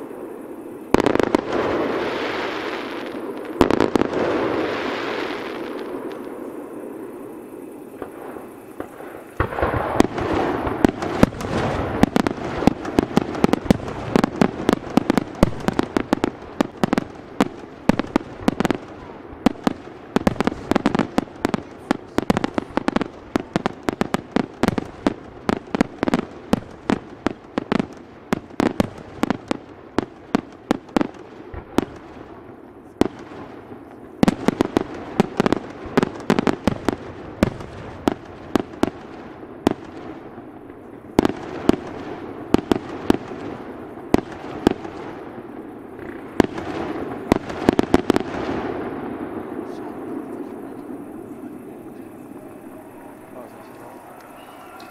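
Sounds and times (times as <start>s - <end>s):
fireworks bangs: 0.0s - 54.9s
fireworks rumble: 0.0s - 54.9s.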